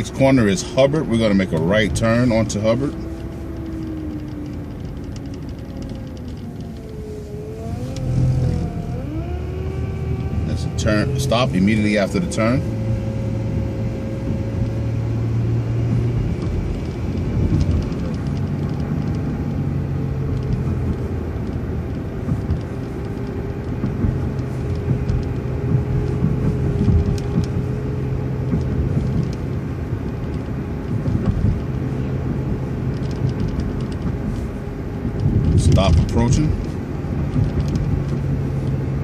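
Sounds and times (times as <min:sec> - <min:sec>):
bus engine drone: 0:00.0 - 0:39.0
road rumble: 0:00.0 - 0:39.0.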